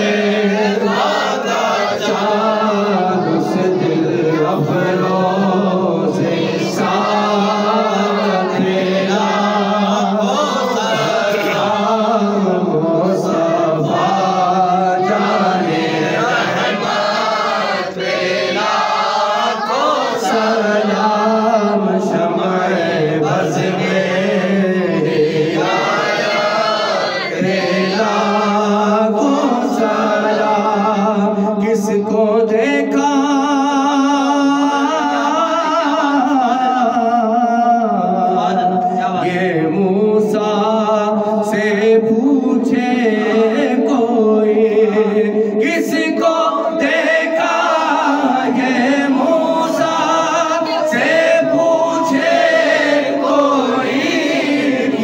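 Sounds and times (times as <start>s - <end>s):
voices singing devotional hymn: 0.0s - 55.0s.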